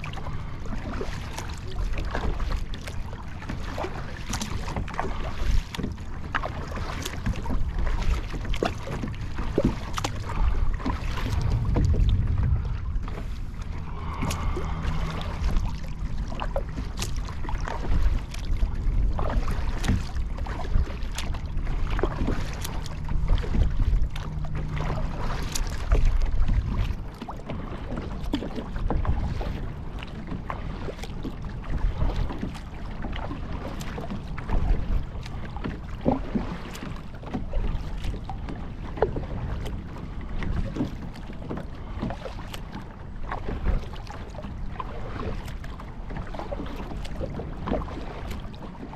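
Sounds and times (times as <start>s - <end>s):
knocks and splashes on kayak hull: 0.0s - 48.9s
water lapping: 0.0s - 48.9s
wind rumbling on microphone: 0.0s - 48.9s.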